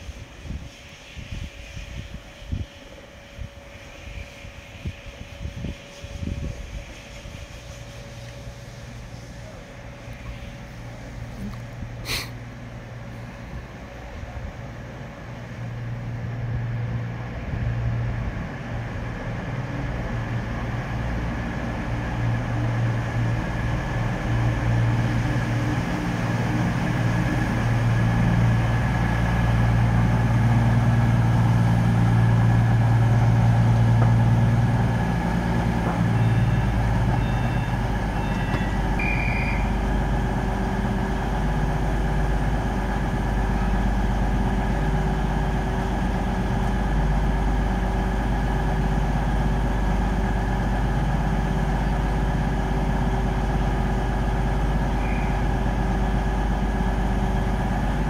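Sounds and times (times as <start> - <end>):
train running drone: 0.0 - 58.0.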